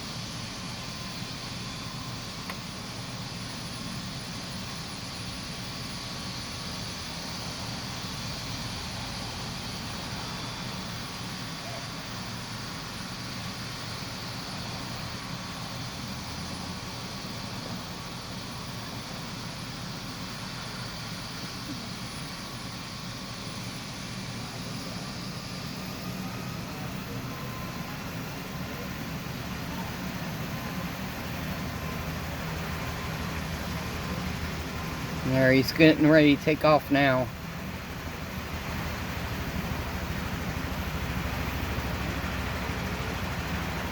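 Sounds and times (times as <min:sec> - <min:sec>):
helicopter engine and rotor: 0:00.0 - 0:43.9
turbine whine: 0:00.0 - 0:43.9.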